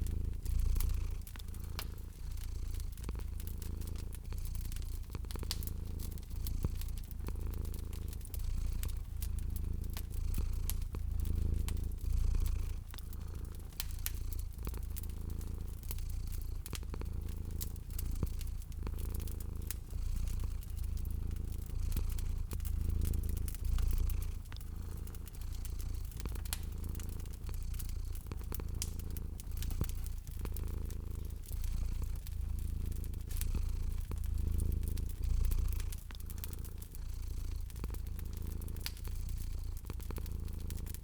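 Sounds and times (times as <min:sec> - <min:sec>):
cat purring: 0:00.0 - 0:41.0
wood fire crackling: 0:00.0 - 0:41.0.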